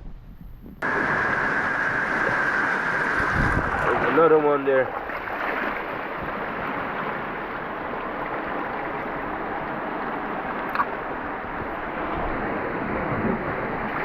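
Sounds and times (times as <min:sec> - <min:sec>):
sea water rushing and sloshing: 0:00.8 - 0:14.0.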